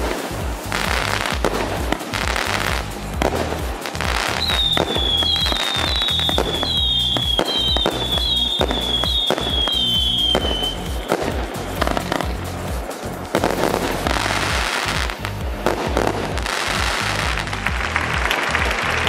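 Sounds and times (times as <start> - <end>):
falling firework whistles: 0.0 - 17.5
fireworks bursting and crackling: 0.0 - 19.0
fireworks launch shots: 0.0 - 19.0.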